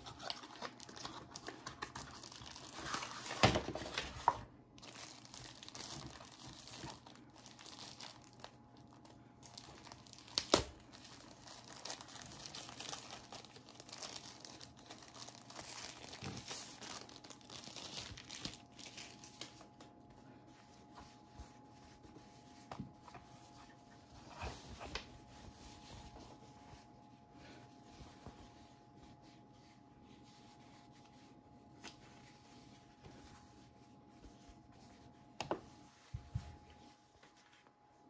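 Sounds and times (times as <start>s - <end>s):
tissue paper rustling: 0.0s - 38.0s.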